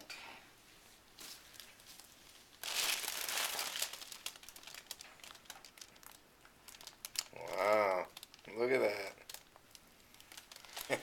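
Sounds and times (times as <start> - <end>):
paper or plastic crinkling: 1.2 - 11.0.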